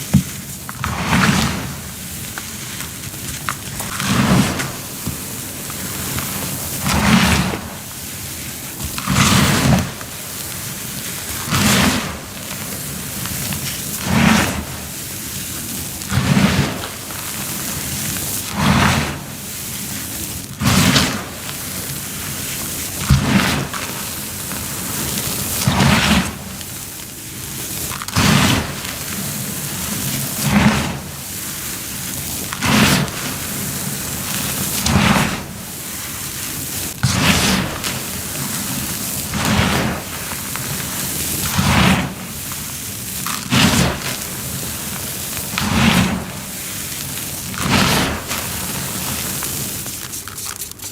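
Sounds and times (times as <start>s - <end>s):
cornstarch crunching: 0.0s - 50.9s
steady hiss: 0.0s - 50.9s.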